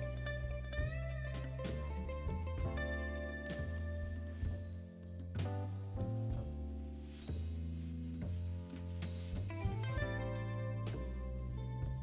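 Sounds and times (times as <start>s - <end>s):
instrumental music with bass: 0.0s - 12.0s.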